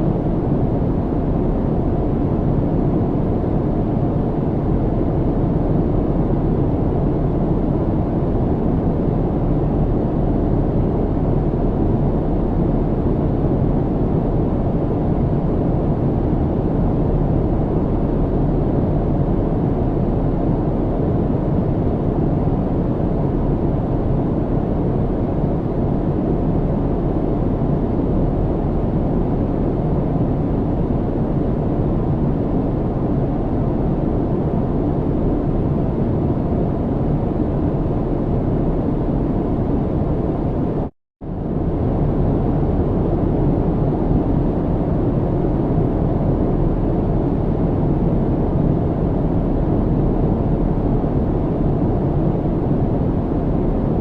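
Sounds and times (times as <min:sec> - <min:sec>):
airplane cabin low rumble: 0:00.0 - 0:54.0.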